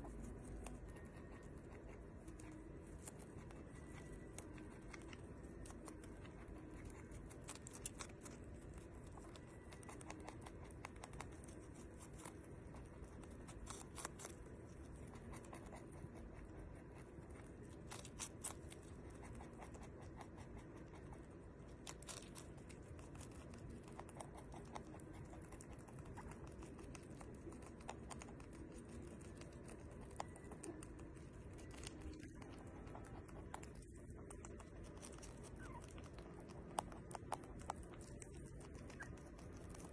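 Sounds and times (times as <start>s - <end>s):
rabbit chewing: 0.0s - 39.9s.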